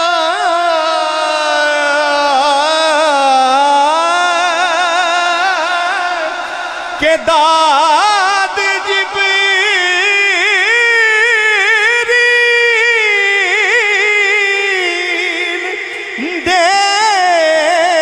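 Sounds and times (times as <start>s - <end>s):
man singing into a microphone: 0.0s - 18.0s.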